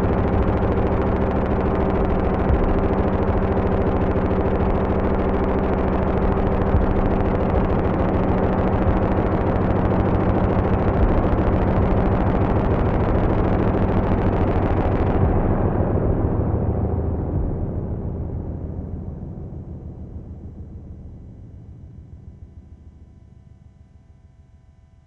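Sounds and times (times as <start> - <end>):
noisy grainy synth texture: 0.0 - 22.5
synthesizer drone of low notes: 0.0 - 25.0.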